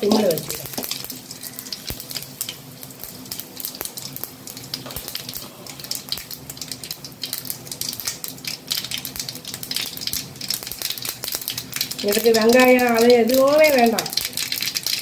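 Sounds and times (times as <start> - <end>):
sharp crackles and pops: 0.0 - 15.0
spices sizzling in hot oil: 0.0 - 15.0.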